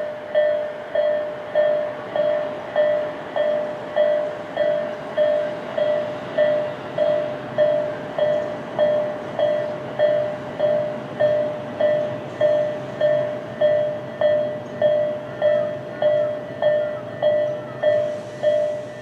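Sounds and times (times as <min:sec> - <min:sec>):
railroad crossing bell ringing: 0:00.0 - 0:19.0.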